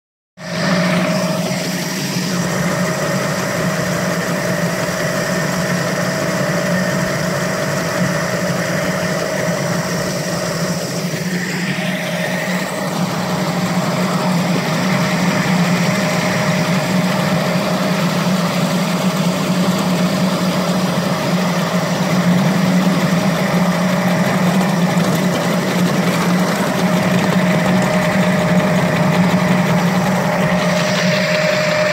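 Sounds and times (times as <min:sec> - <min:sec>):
locomotive drive humming: 0:00.4 - 0:31.9
wheels rumbling on track: 0:00.4 - 0:31.9.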